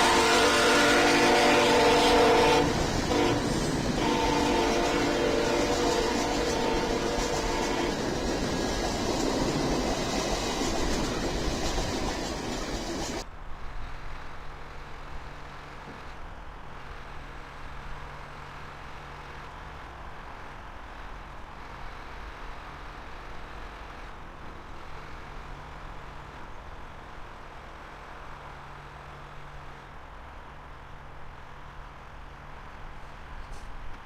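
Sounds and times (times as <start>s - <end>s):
loud train noise: 0.0s - 34.0s.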